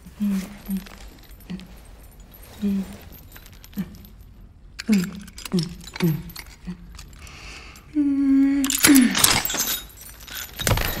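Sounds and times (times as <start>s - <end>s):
metal chains rattling and clinking: 0.0s - 7.9s, 8.6s - 11.0s.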